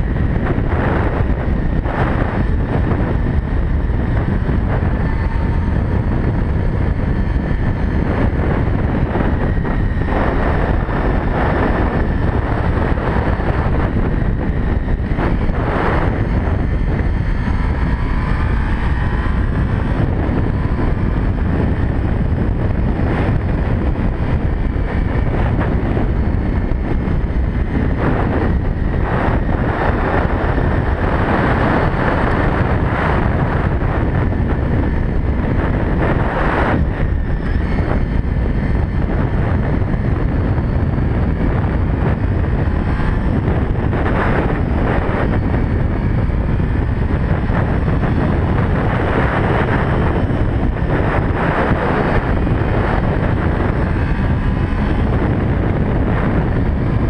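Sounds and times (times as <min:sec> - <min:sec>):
motorcycle engine roar: 0:00.0 - 0:57.0
wind rushing over microphone: 0:00.0 - 0:57.0.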